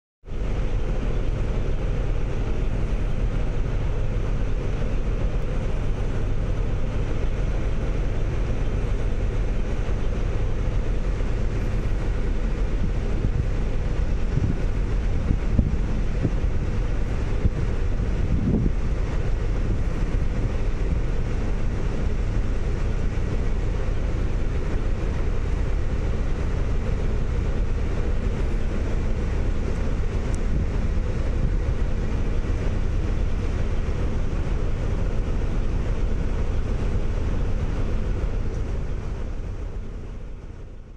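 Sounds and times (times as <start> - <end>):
boat engine rumble: 0.2 - 40.9
rushing water: 0.3 - 40.8
wind noise: 0.4 - 40.0.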